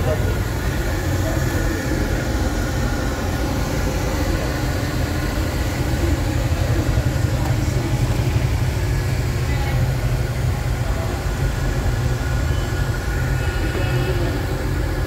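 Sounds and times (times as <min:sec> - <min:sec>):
boiler burner rumbling: 0:00.0 - 0:15.0.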